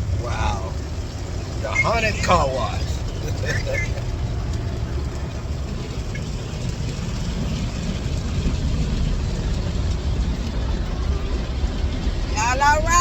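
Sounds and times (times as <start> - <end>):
car wash rumble and hiss: 0.0 - 13.0.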